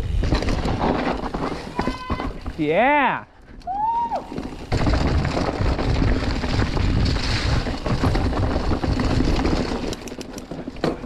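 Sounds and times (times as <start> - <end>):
bike rolling rumble: 0.0 - 11.0.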